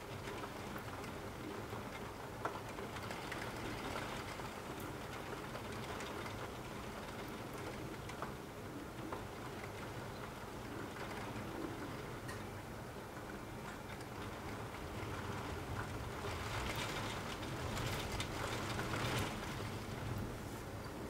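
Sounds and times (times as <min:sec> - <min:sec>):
raindrop ticks: 0:00.1 - 0:08.4, 0:09.0 - 0:12.5, 0:13.1 - 0:20.0.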